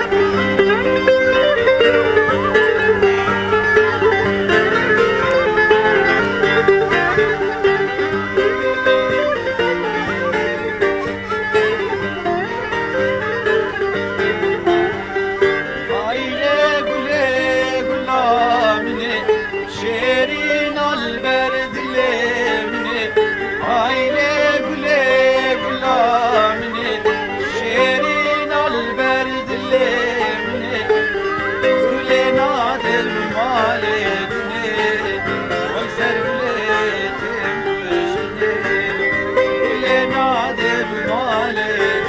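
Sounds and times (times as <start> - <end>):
lutes strumming: 0.0 - 42.0
person singing ornamented melody: 0.0 - 42.0
wooden flute: 0.0 - 42.0.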